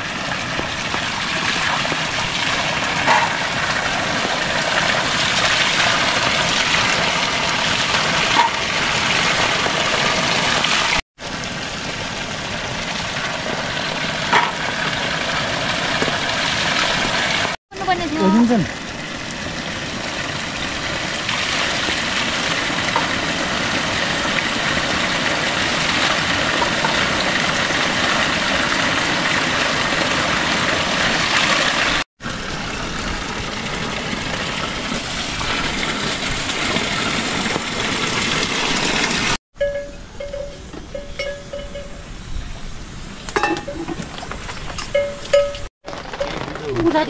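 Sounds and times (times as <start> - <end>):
water gushing onto rocks: 0.0 - 39.4, 45.3 - 47.0.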